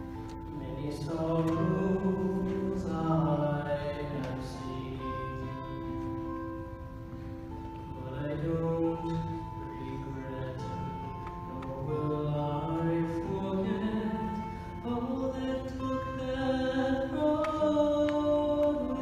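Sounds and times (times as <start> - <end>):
musical accompaniment: 0.0 - 19.0
man singing into a microphone: 0.4 - 6.3, 7.9 - 19.0.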